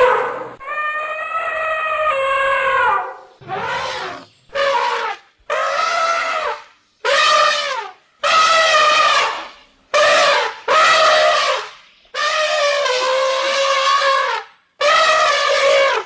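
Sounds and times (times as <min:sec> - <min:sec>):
elephant trumpeting: 0:00.0 - 0:16.0.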